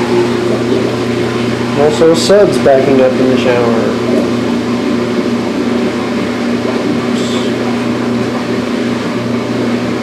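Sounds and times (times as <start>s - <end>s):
drain bubbling and sputtering: 0.0s - 10.0s.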